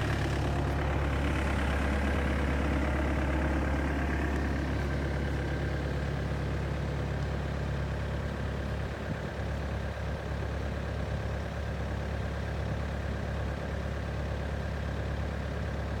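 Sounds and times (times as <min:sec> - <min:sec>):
excavator diesel engine idling: 0:00.0 - 0:16.0.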